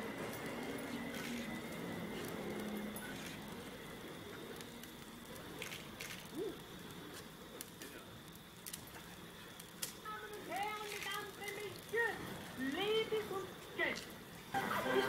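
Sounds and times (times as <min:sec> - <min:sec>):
crackling hiss of burning wicks: 0:00.0 - 0:15.0.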